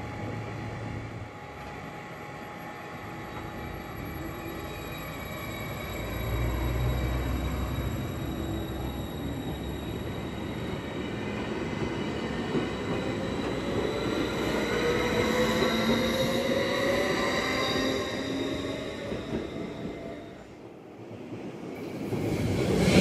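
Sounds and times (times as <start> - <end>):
electric train traction whine: 0.0 - 20.5.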